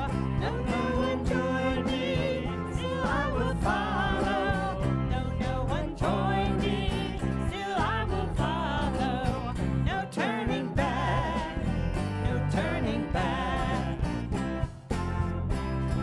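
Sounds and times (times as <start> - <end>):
person singing: 0.0 - 14.3
drum kit: 0.0 - 16.0
electric bass: 0.0 - 16.0
electric guitar: 0.0 - 16.0.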